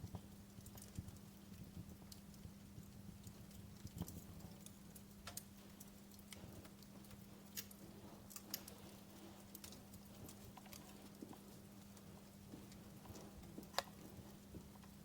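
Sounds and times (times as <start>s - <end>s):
faint steady hum: 0.0s - 15.0s
wood fire crackling: 0.0s - 15.0s.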